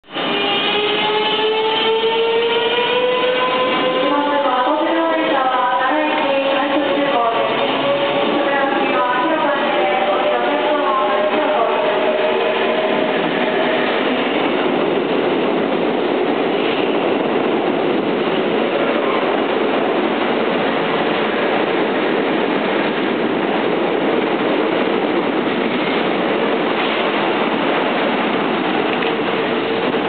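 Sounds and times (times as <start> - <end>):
train wheels on rail: 0.0 - 30.0.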